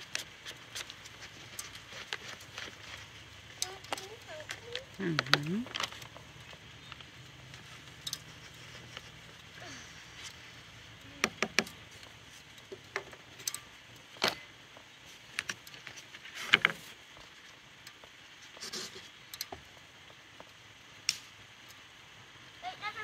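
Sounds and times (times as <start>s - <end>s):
kindling snapping and crackling: 0.0s - 21.8s.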